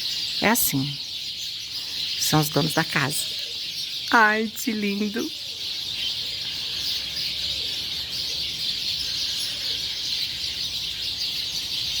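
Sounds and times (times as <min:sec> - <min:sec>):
flock of small birds chirping: 0:00.0 - 0:12.0.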